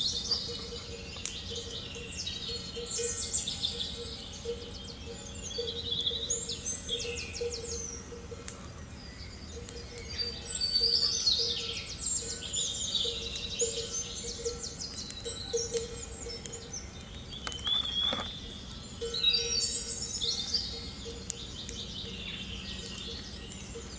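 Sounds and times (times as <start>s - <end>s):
songbirds chirping and trilling: 0.0s - 23.9s.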